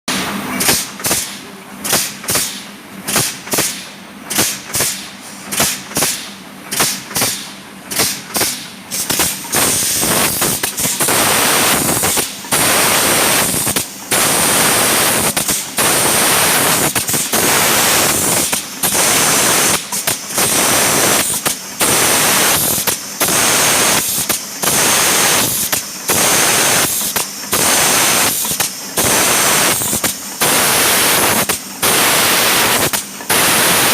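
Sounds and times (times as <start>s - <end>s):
pneumatic air bursts and hiss: 0.6s - 33.9s.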